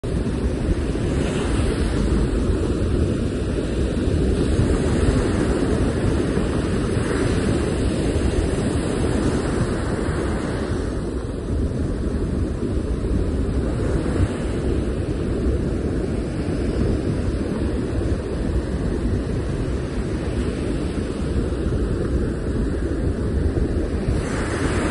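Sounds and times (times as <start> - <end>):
surf breaking on beach: 0.0 - 24.9
wind rumble on microphone: 0.0 - 24.9.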